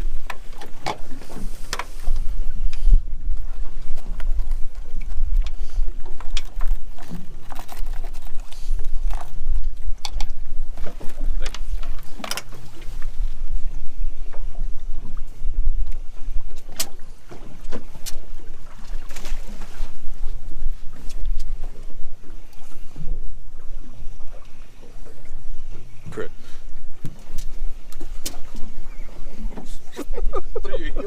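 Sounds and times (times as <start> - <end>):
boat engine rumble and hum: 0.0 - 31.0.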